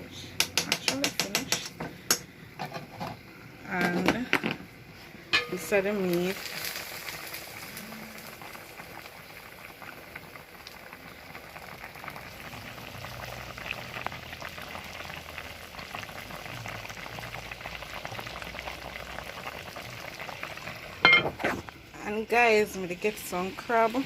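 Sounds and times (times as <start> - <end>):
pot bubbling and sizzling: 0.0 - 24.0.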